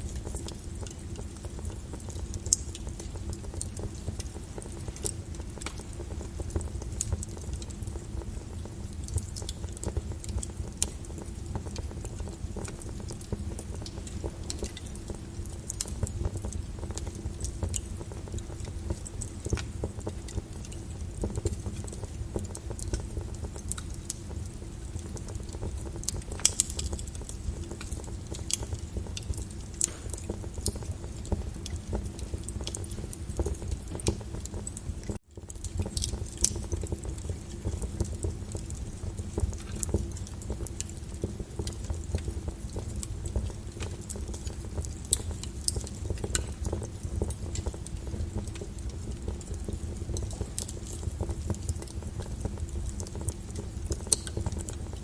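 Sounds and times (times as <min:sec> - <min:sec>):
fireplace crackling and popping: 0:00.0 - 0:55.0
rain on a window: 0:00.0 - 0:55.0.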